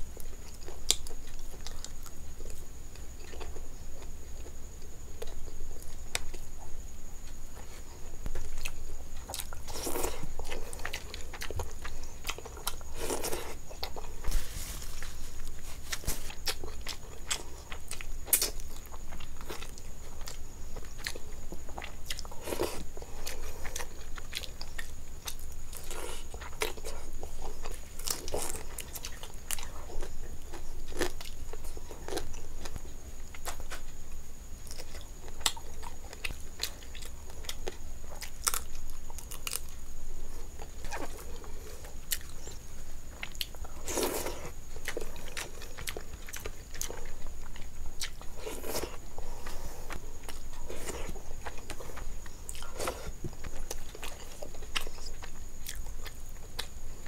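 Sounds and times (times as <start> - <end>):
person chewing food: 0.2 - 6.6, 7.2 - 33.9, 34.6 - 56.8.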